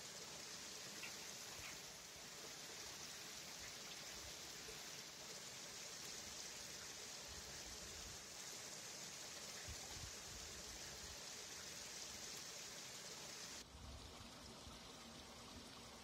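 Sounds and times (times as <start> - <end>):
water running in a channel: 0.0 - 16.0.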